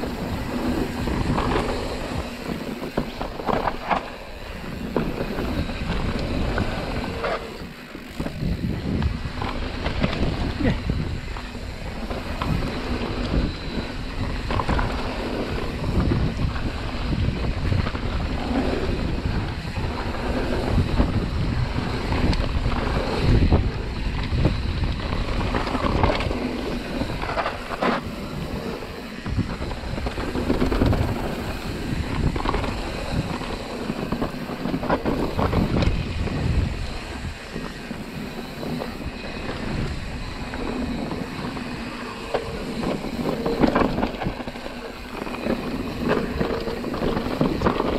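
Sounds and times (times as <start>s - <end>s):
tyres rumbling over dirt: 0.0s - 47.9s
wind buffeting microphone: 0.0s - 47.9s.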